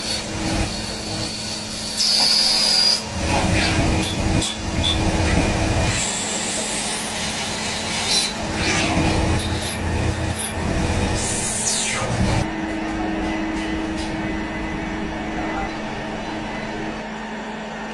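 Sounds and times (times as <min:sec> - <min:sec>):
high-pitched cutting whine: 0:00.0 - 0:17.9
machine tool hum and rumble: 0:00.0 - 0:17.9.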